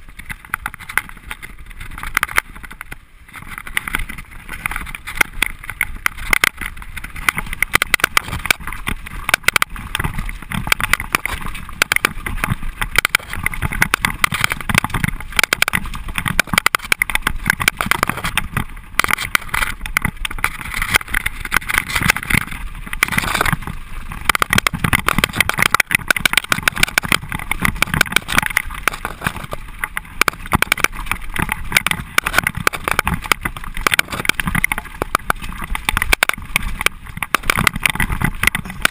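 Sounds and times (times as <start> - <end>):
bike rattling over bumps: 0.0 - 38.9.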